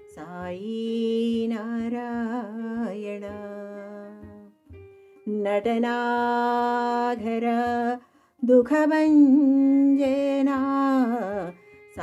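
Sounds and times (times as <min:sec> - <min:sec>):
woman singing devotional melody: 0:00.0 - 0:12.0.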